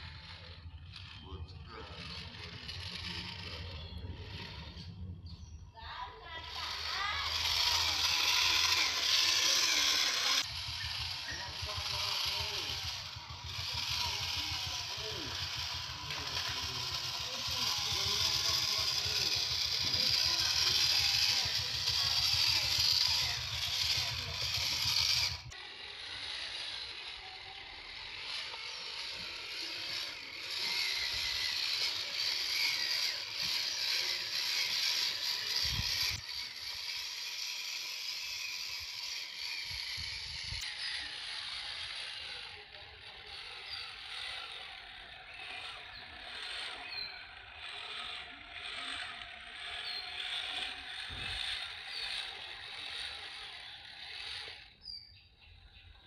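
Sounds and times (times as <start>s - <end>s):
electric motor and gears whirring: 0.0s - 56.0s.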